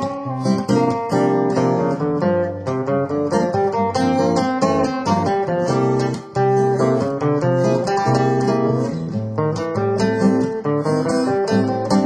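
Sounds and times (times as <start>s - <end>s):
acoustic guitar plucked notes: 0.0s - 12.0s.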